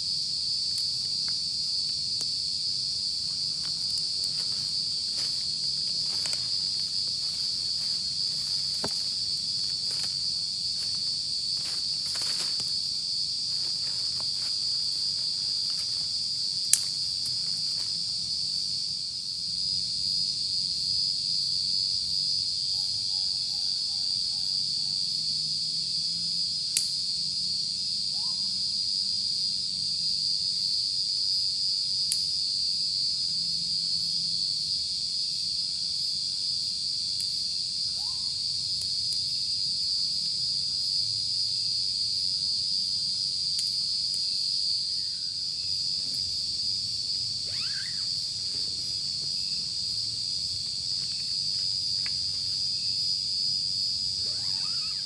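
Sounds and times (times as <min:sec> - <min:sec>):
night insect chorus: 0:00.0 - 0:55.0.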